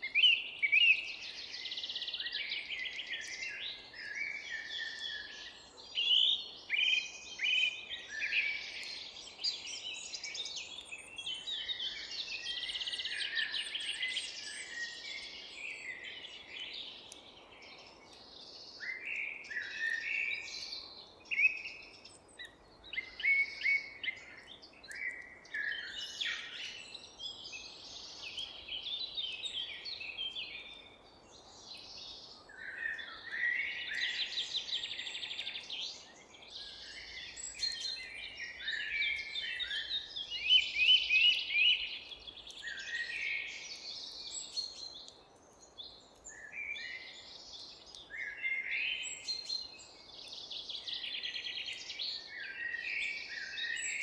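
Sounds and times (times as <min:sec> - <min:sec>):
songbirds chirping in chorus: 0:00.0 - 0:54.0.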